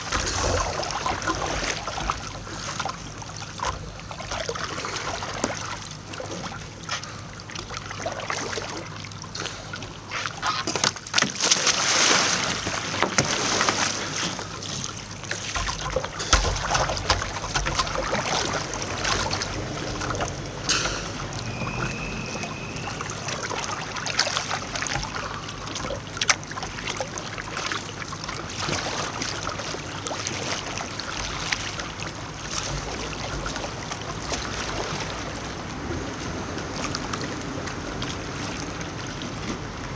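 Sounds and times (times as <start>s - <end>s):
kayak paddle splashing: 0.0s - 39.9s
water sloshing around hull: 0.0s - 39.9s.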